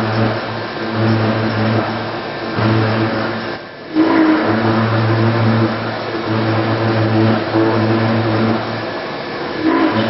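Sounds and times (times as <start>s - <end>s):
milling machine cutting metal: 0.0s - 10.0s.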